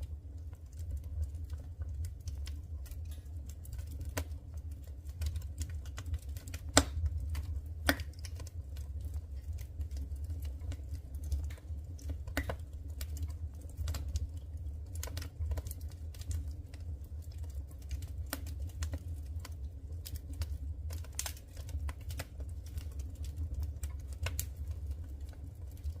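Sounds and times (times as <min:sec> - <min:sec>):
firewood crackling and popping: 0:00.0 - 0:26.0
low stove rumble: 0:00.0 - 0:26.0.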